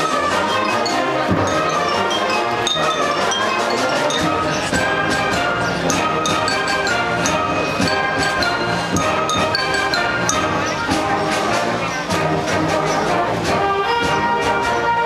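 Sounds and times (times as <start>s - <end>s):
concert band playing: 0.0s - 15.0s.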